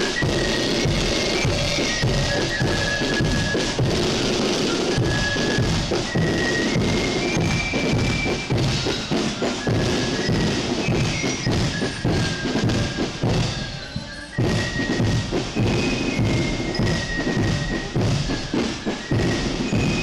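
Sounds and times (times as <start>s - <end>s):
drums beating: 0.0s - 20.0s
marching band music: 0.0s - 20.0s.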